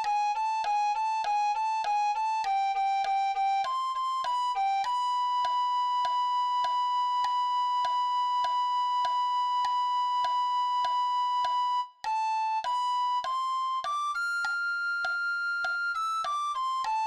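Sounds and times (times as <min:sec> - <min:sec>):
recorder melody: 0:00.0 - 0:17.0.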